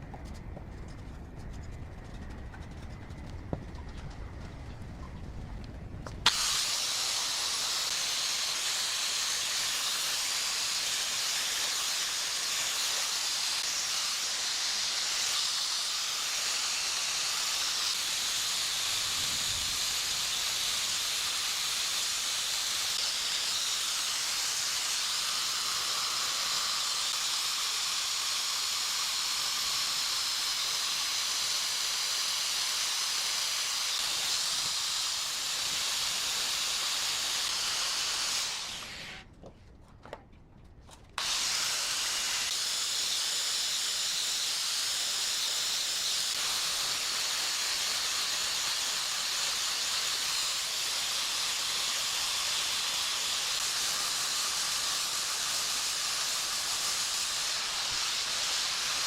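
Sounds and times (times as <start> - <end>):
compressed air hissing: 6.3 - 39.2, 41.2 - 59.0.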